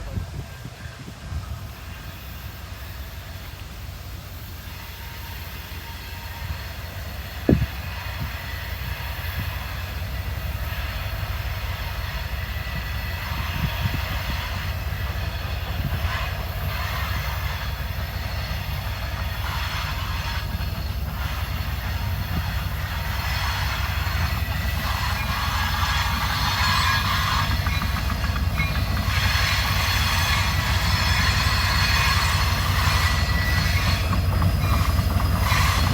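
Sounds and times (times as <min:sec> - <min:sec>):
train wheels rumbling on rails: 0:00.0 - 0:35.9
train wheels squealing: 0:00.1 - 0:35.9.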